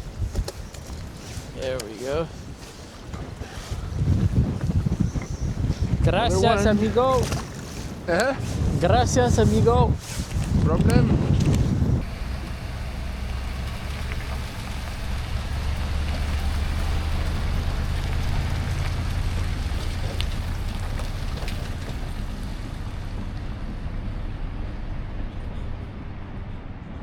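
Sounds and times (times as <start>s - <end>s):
hiss of wind and water: 0.0s - 27.0s
boat motor running: 4.2s - 27.0s.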